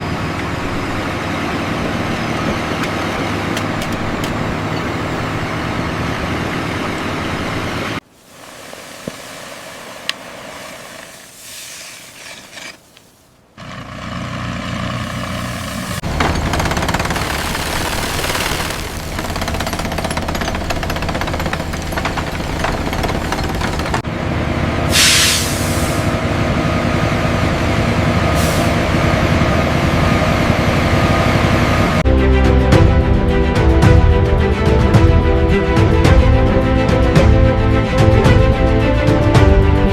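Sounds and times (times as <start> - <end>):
construction machinery rumble and clatter: 0.0 - 8.1, 12.4 - 24.9, 25.6 - 39.9.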